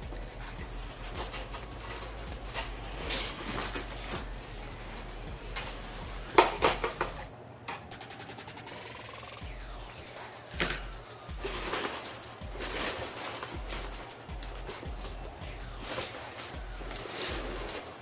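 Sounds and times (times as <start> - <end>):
paper rustling and crackling: 0.0 - 7.3, 10.0 - 18.0.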